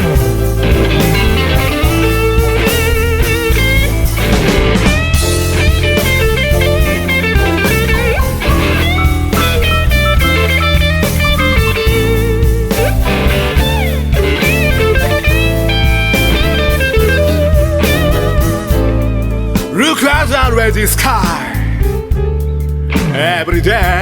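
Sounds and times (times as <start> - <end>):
bass guitar: 0.0 - 24.0
drum kit: 0.0 - 24.0
electric guitar lead: 0.0 - 24.0.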